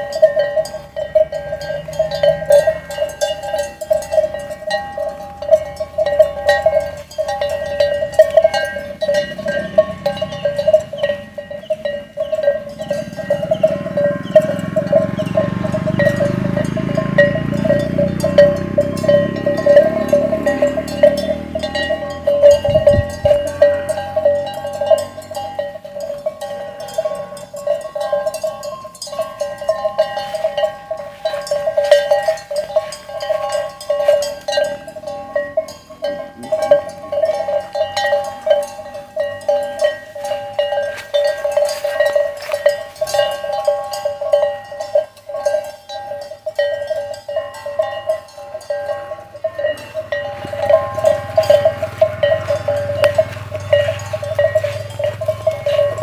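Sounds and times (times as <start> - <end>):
cow bell clanking: 0.0 - 56.0
low engine rumble of passing vehicle: 0.0 - 56.0.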